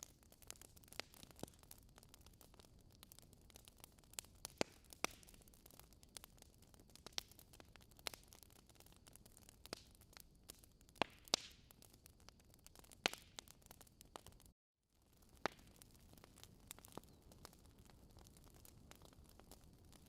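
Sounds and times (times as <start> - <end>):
wood logs crackling: 0.0 - 14.5, 15.1 - 20.0.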